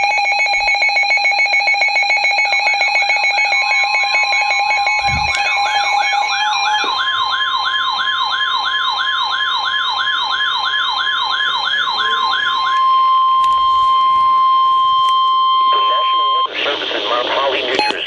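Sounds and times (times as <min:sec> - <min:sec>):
beeping alarm: 0:00.0 - 0:16.5, 0:17.7 - 0:18.0
warbling siren alarm: 0:00.0 - 0:16.5
steady warning alarm tone: 0:00.0 - 0:16.6, 0:17.7 - 0:18.0.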